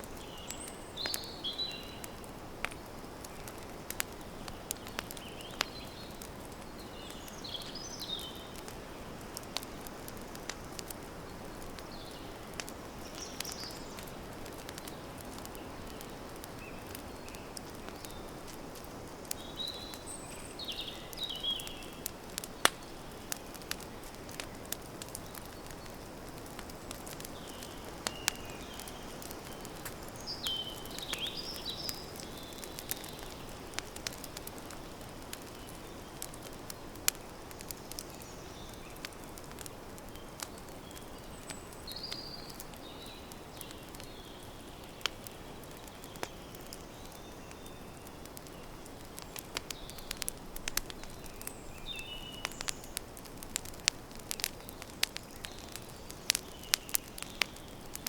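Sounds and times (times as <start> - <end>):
campfire crackling and popping: 0.0 - 58.0
small birds chirping: 0.0 - 58.0.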